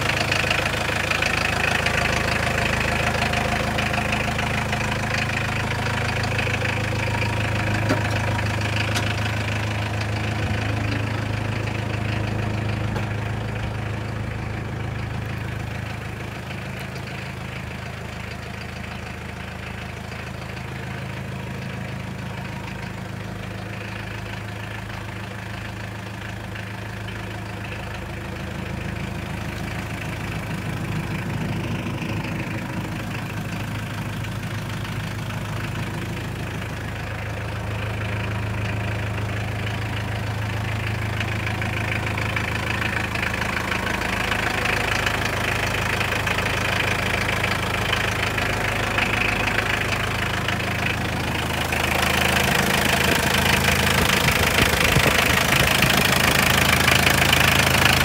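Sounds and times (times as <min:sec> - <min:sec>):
diesel engine idling with clatter: 0:00.0 - 0:58.0.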